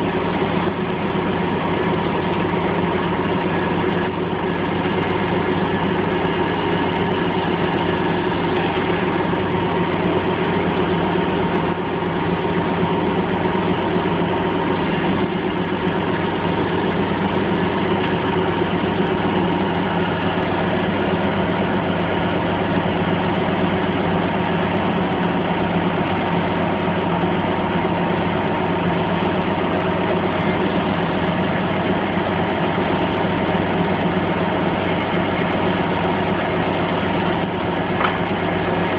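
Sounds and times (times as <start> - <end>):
crane engine droning: 0.0 - 38.9.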